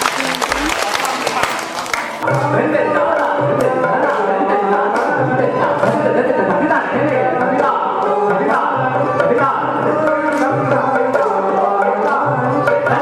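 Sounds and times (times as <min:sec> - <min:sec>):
devotional singing: 0:00.0 - 0:13.0
tabla playing rhythm: 0:00.0 - 0:13.0.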